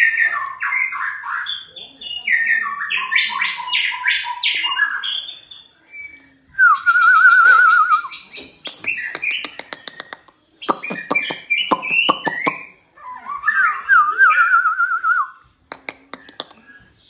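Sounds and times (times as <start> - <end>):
bird singing trills and whistles: 0.0 - 15.4.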